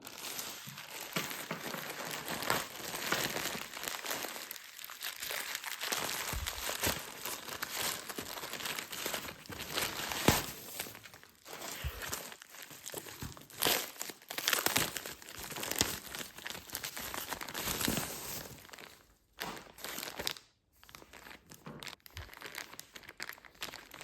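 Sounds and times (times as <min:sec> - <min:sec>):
packaging tearing: 0:00.0 - 0:20.4
packaging crinkling: 0:00.0 - 0:24.0.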